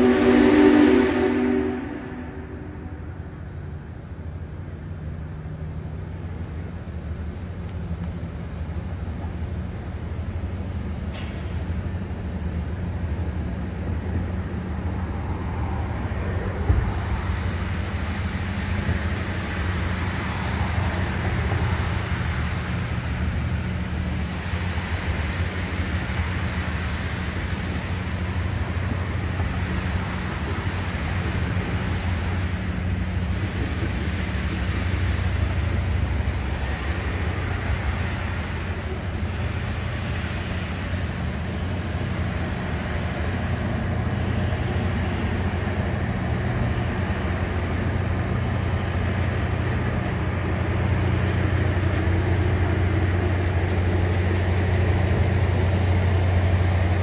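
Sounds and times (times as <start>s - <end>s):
locomotive rumble: 0.0s - 57.0s.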